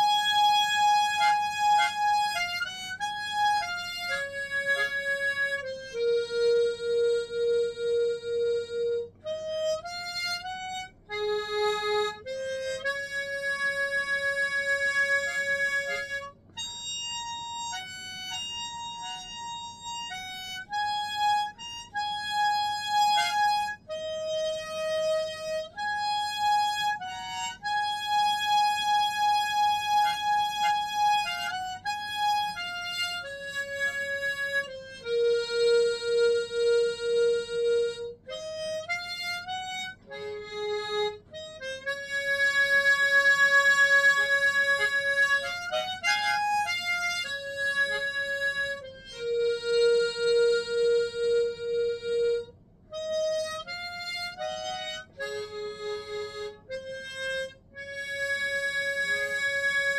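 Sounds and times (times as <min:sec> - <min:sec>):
solo harmonica melody: 0:00.0 - 0:59.9.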